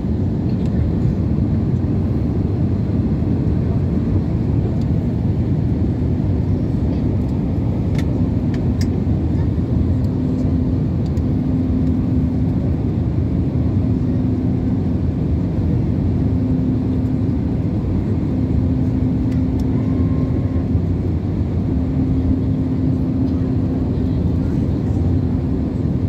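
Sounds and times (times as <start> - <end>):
jet cabin engine roar: 0.0 - 26.0.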